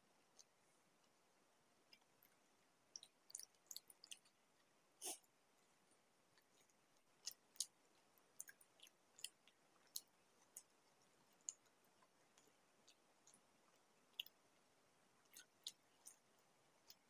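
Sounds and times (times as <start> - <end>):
crisp food being chewed: 1.8 - 17.0.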